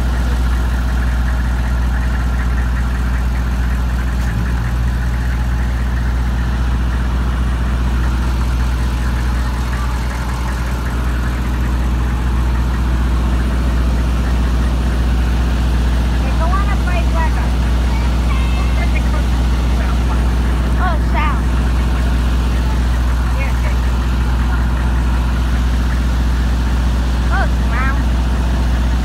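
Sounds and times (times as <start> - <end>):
truck engine idling hum: 0.0 - 29.0.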